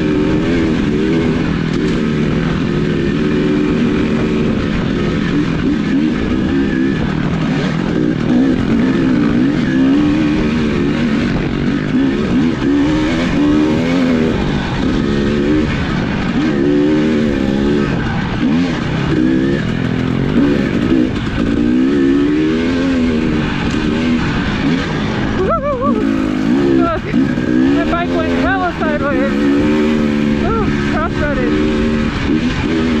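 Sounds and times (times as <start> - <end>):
off-road vehicle engine revving: 0.0 - 33.0
steady rushing noise: 0.0 - 33.0.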